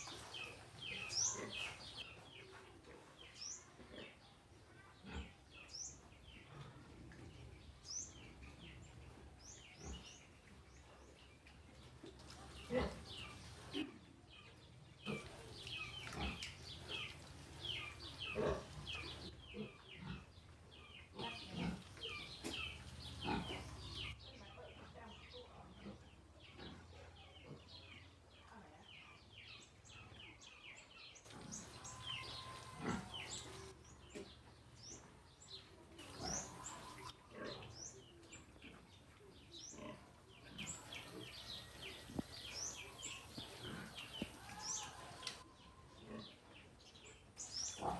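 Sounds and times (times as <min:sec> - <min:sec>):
piglets grunting while eating: 0:00.0 - 0:08.8, 0:09.4 - 0:11.3, 0:12.0 - 0:24.2, 0:25.6 - 0:28.0, 0:31.3 - 0:47.9.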